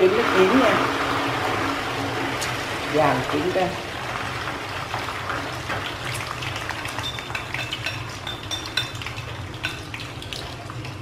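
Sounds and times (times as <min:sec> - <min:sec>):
egg sizzling in hot oil: 0:00.0 - 0:11.0.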